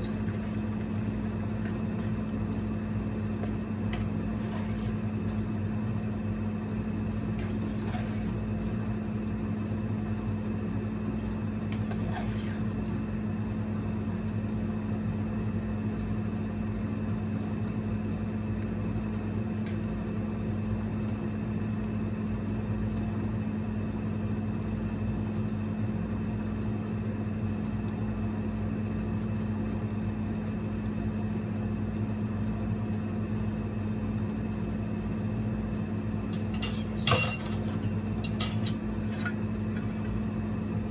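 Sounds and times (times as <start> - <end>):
cooker electric hum and fan: 0.0 - 40.9.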